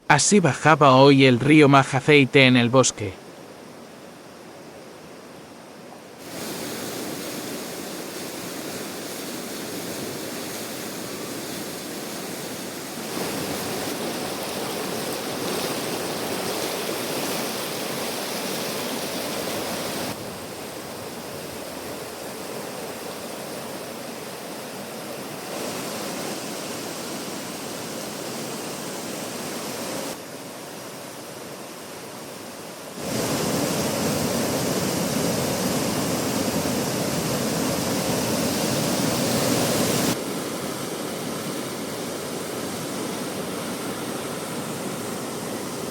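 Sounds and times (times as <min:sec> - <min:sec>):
fast-flowing water rushing: 0:06.1 - 0:45.9.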